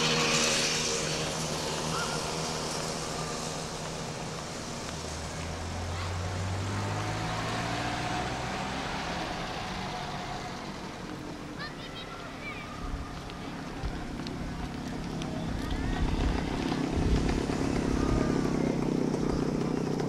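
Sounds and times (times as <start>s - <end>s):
traffic hiss: 0.0s - 20.0s
vehicle engine hum: 0.0s - 20.0s.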